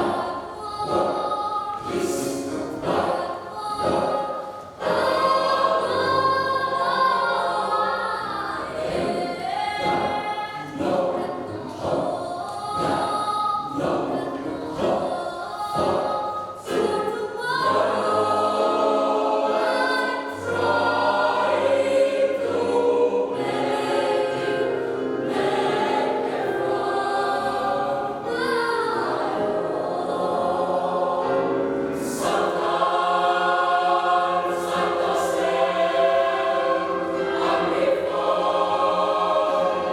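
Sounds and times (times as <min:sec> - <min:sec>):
youth choir singing: 0:00.0 - 0:39.9.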